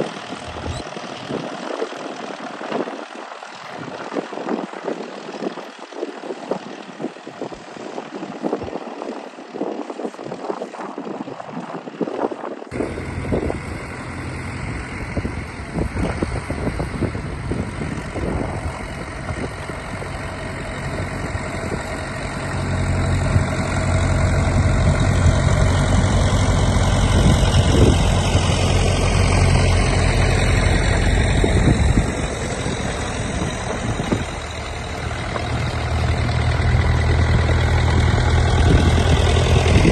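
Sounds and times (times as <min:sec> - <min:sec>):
tractor engine rumbling: 0:00.0 - 0:11.2, 0:12.7 - 0:39.9.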